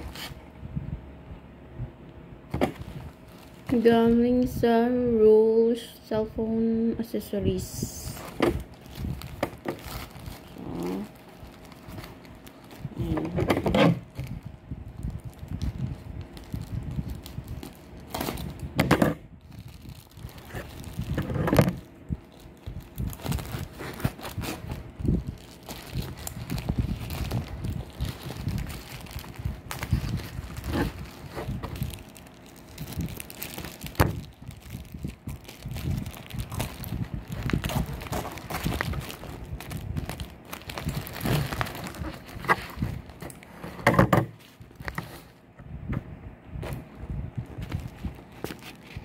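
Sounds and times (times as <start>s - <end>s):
plastic pouch rustling: 2.5s - 4.6s, 8.0s - 18.8s, 19.4s - 45.4s, 46.6s - 49.0s
plastic bag crinkling: 2.5s - 4.8s, 7.5s - 18.8s, 19.4s - 45.4s, 46.6s - 49.0s.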